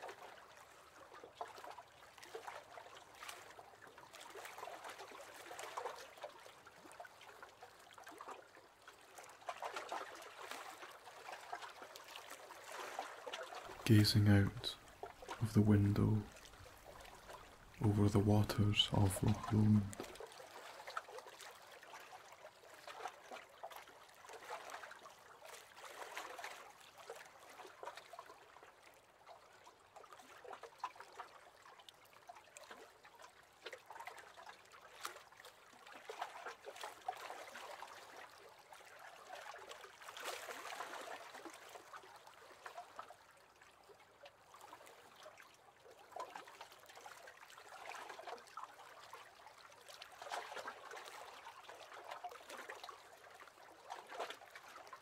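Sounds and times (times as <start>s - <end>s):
water lapping against boat hull: 0.0s - 13.8s, 14.4s - 55.0s.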